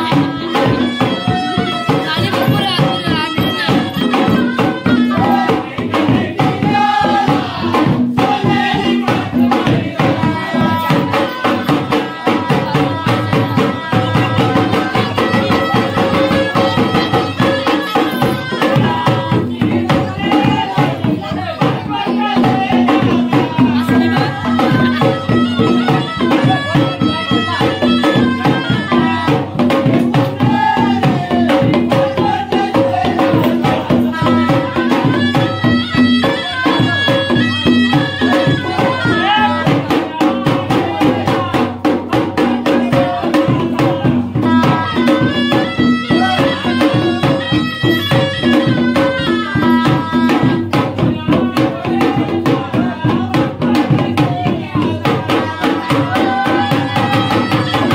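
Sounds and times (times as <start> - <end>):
folk music with drums: 0.0 - 57.9.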